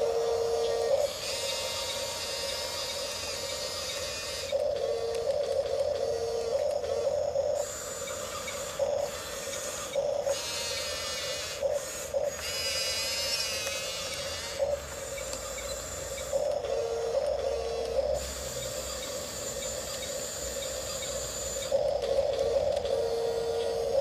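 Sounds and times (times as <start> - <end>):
high motor and gear whine: 0.0 - 24.0
steady hum with louder pulses: 0.0 - 24.0.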